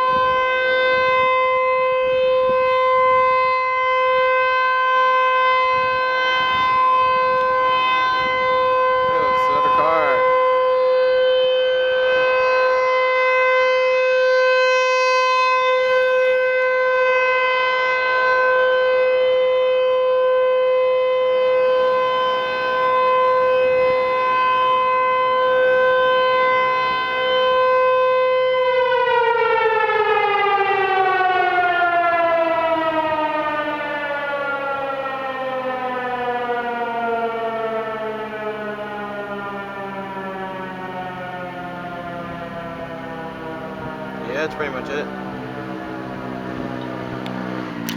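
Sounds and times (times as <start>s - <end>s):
warning siren winding down: 0.0s - 47.9s.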